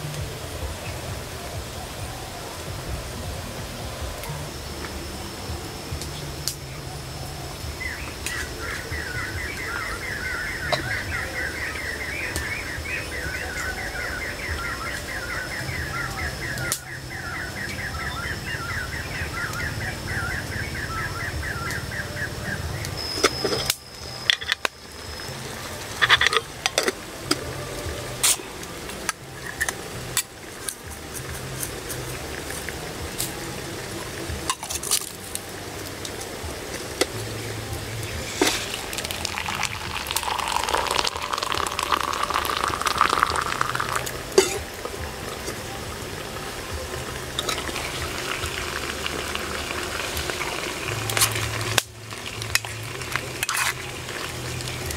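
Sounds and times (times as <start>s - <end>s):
steady high whine: 0.0s - 54.9s.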